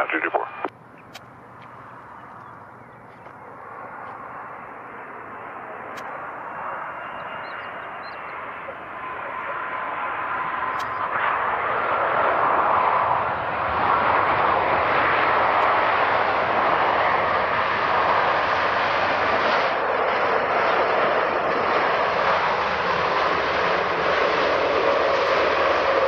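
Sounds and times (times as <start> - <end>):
jet engine roar of landing plane: 0.0 - 26.0.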